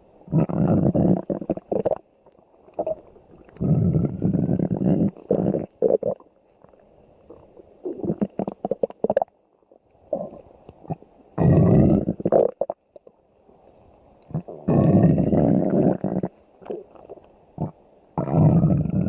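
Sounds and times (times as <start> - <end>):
stomach growling and gurgling: 0.2 - 9.4, 10.0 - 13.2, 14.2 - 19.0.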